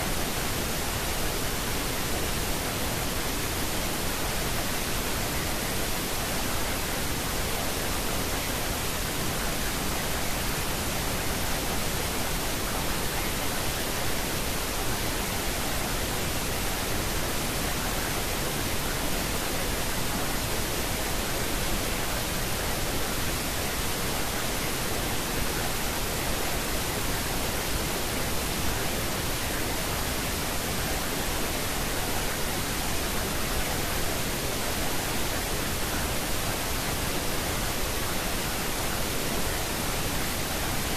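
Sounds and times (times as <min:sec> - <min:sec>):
pink noise hiss: 0:00.0 - 0:40.9.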